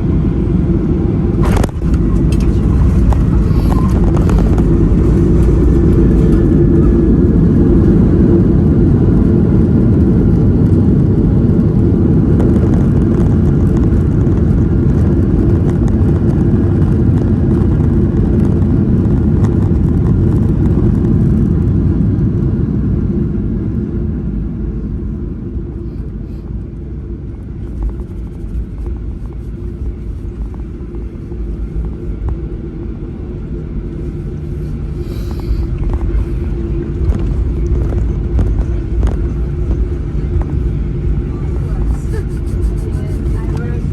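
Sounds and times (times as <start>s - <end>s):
jet engines and wheels rumbling: 0.0s - 43.9s.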